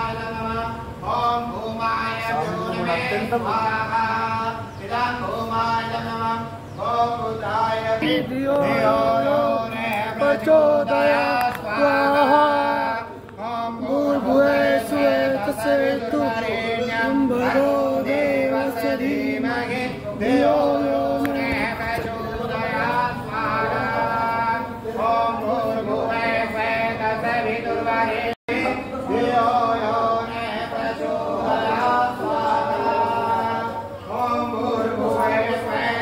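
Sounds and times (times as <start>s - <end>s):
group chanting: 0.0s - 36.0s.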